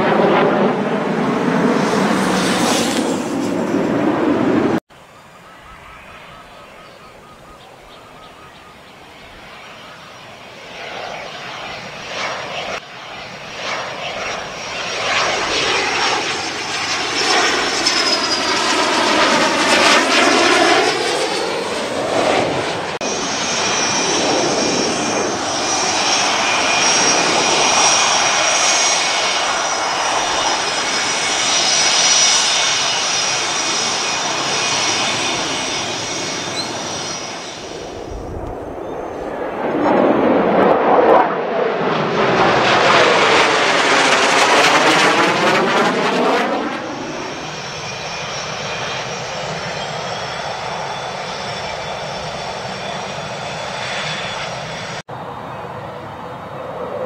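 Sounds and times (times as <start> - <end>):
jet engines whining: 0.0 - 57.0
jet flying past: 0.0 - 57.0.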